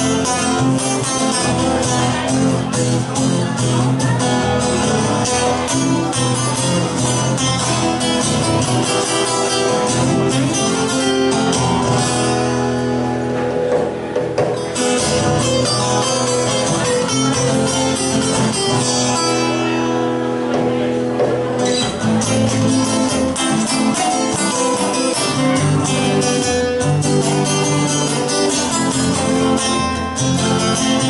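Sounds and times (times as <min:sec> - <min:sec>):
lead guitar picking fast runs: 0:00.0 - 0:31.0
rhythm guitar strumming chords: 0:00.0 - 0:31.0.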